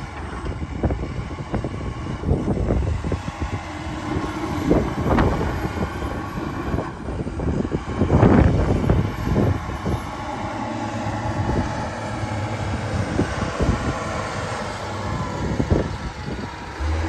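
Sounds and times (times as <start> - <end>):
heavy farm machinery engine: 0.0 - 17.0.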